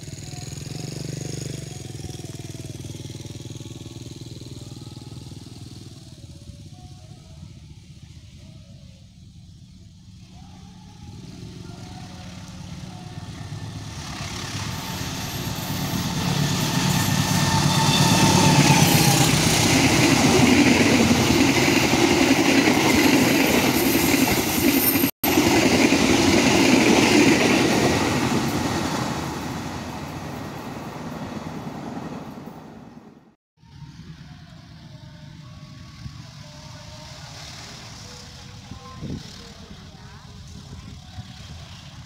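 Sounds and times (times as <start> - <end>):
diesel train passing: 7.8 - 42.0.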